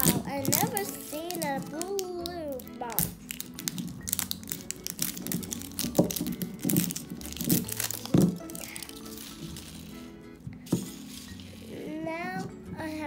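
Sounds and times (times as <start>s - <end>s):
plastic wrapper crinkling: 0.0s - 11.8s
quiet background music: 0.0s - 13.0s.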